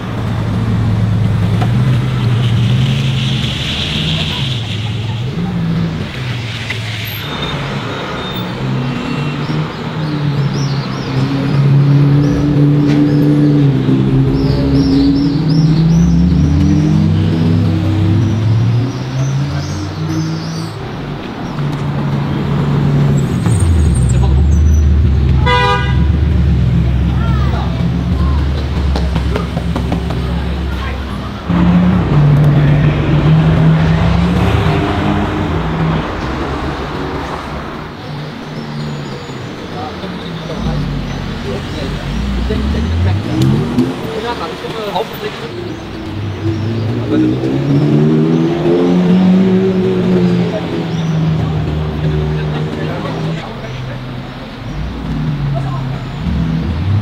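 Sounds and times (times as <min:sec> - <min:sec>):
sports car engine revving: 0:10.4 - 0:57.0.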